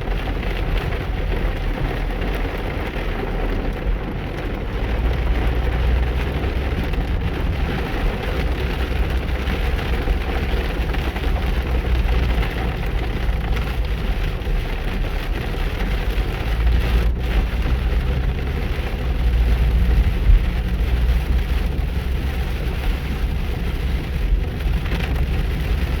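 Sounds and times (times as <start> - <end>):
heavy rain on a car: 0.0 - 26.0
low rumble from car: 0.0 - 26.0.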